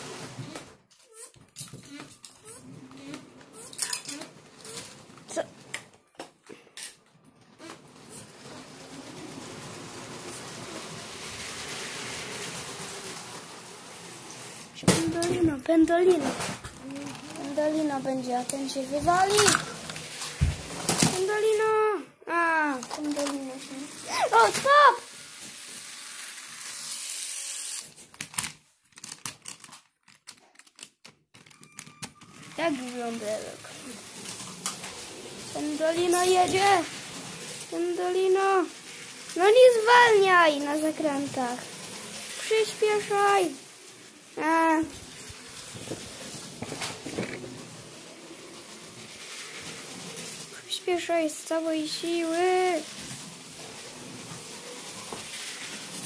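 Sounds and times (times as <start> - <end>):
toy train whirring: 0.0 - 29.9, 30.6 - 56.0
plastic pieces clicking and knocking: 0.5 - 21.6, 22.6 - 47.7.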